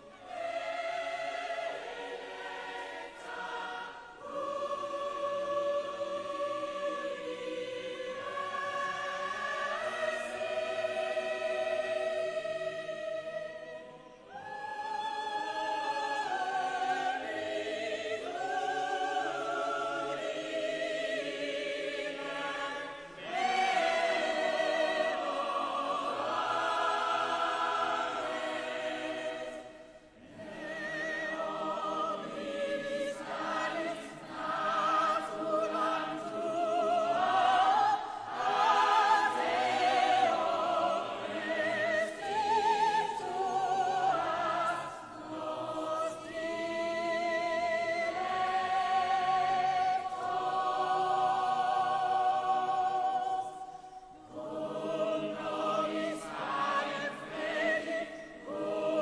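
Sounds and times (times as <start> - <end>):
operatic choir singing: 0.0 - 59.0.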